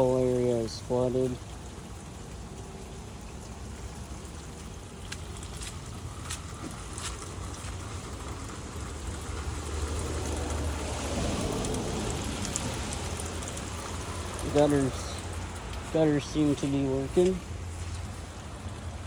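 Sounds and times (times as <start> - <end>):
rain and running water: 0.0 - 19.0
water drips ticking: 0.0 - 19.0.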